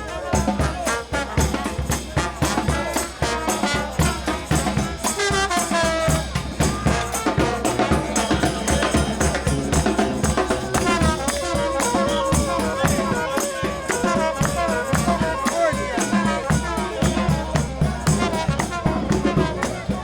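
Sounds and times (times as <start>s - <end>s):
brass band playing: 0.0s - 20.0s
quick steady drum beat: 0.0s - 20.0s
shaken percussion: 0.0s - 20.0s.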